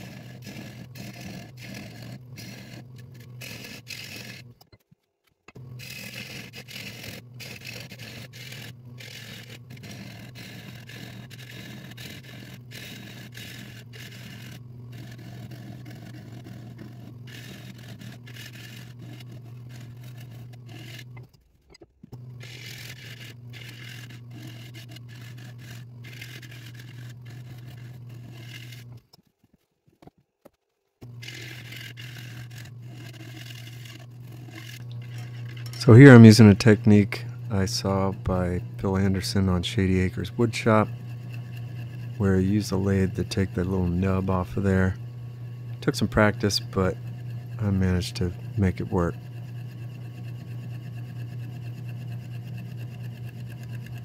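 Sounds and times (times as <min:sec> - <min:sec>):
wood lathe humming: 0:00.0 - 0:04.6, 0:05.5 - 0:21.2, 0:22.2 - 0:29.0, 0:31.0 - 0:54.0
gouge scraping spinning wood: 0:00.0 - 0:04.8, 0:05.5 - 0:21.3, 0:22.1 - 0:30.1, 0:31.0 - 0:54.0.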